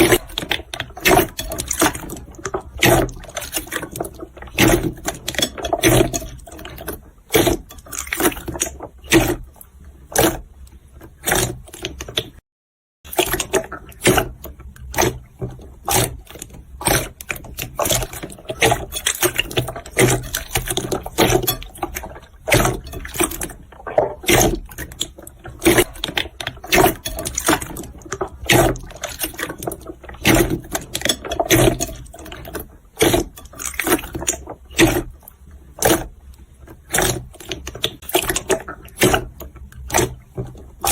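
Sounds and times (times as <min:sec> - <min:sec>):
slime squelching and popping: 0:00.0 - 0:10.6, 0:13.1 - 0:40.9.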